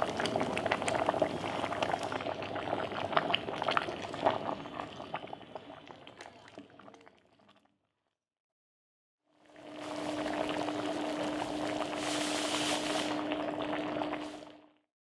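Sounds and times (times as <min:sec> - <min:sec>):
liquid boiling and popping: 0:00.0 - 0:08.0, 0:09.4 - 0:14.9.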